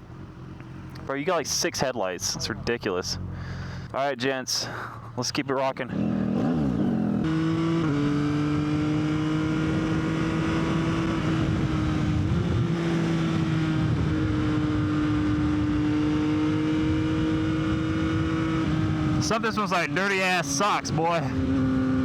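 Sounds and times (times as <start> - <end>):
motorcycle engine cruising: 0.0 - 1.5, 2.3 - 4.0, 5.9 - 22.0.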